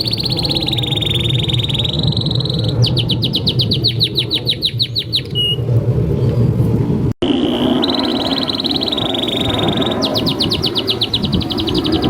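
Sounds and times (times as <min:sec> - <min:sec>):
canary singing: 0:00.0 - 0:05.6, 0:07.2 - 0:12.0
steady low rumble: 0:00.0 - 0:12.0.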